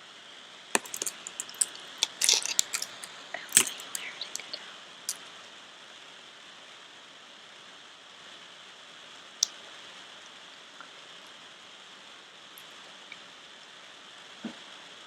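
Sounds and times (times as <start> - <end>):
fireplace crackle hiss: 0.0 - 15.0.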